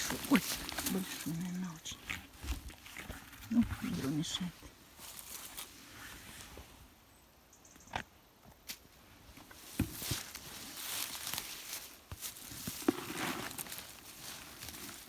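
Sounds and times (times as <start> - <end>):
undergrowth rustling and crackling: 0.0 - 6.9, 8.7 - 15.0.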